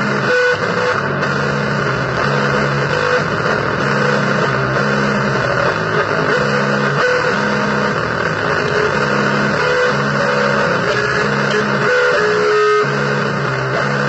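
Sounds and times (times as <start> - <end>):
harsh distorted noise music: 0.0 - 14.0.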